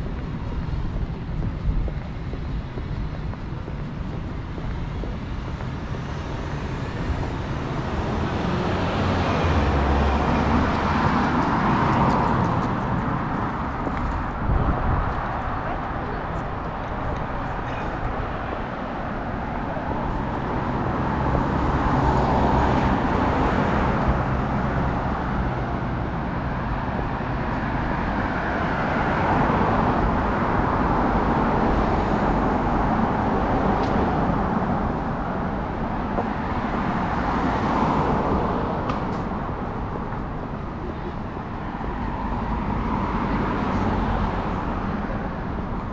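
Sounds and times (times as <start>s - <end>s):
cars driving past: 0.0s - 45.9s.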